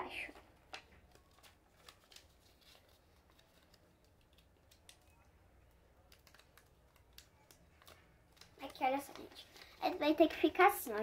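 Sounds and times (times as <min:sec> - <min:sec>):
paper being folded: 0:00.3 - 0:11.0.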